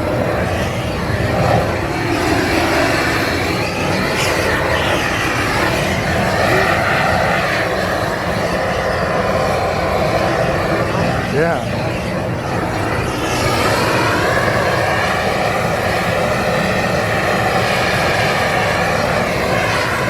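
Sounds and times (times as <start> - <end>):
propane torch flame: 0.0 - 20.0.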